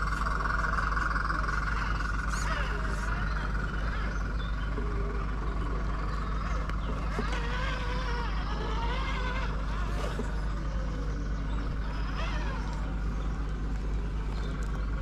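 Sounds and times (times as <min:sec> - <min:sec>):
mechanical drone with high whine: 0:00.0 - 0:15.0.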